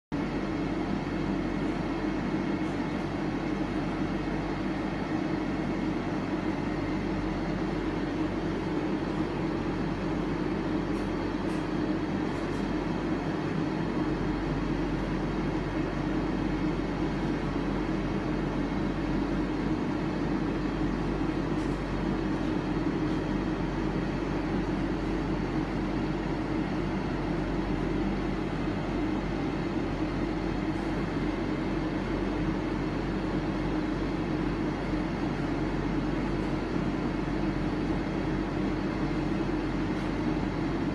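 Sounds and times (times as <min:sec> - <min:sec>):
thread-rolling machine drone: 0:00.2 - 0:40.9.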